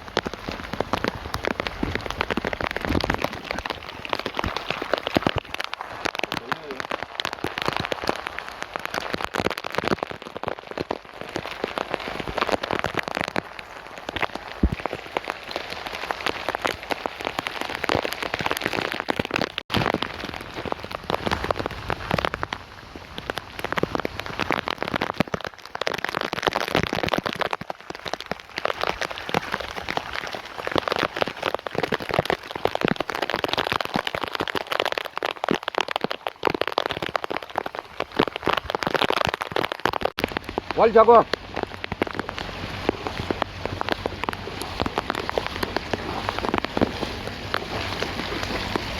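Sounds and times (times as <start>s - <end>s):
rain on a hard surface: 0.0s - 48.9s.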